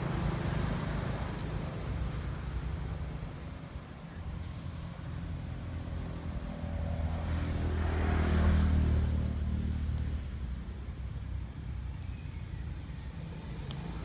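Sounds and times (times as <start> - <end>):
motor vehicle driving past: 0.0 - 3.4, 4.3 - 14.0.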